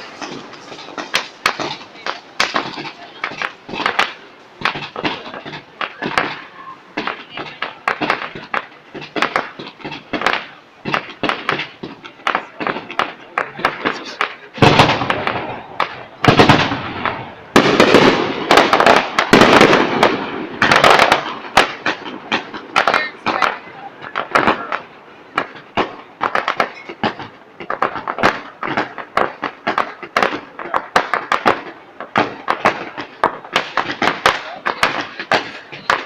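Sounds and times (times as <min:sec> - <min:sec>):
fireworks bangs and crackling: 0:00.0 - 0:36.0
sharp firework cracks: 0:00.0 - 0:36.0.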